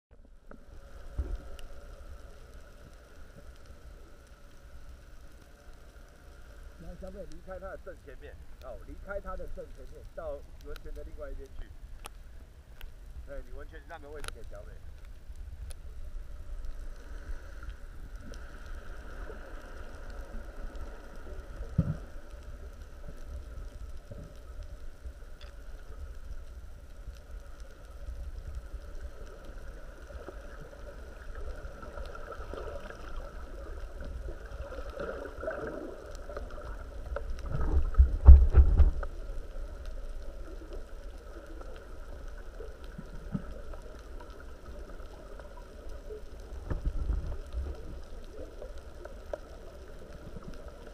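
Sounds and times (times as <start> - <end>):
muffled underwater rumble: 0.1 - 50.9.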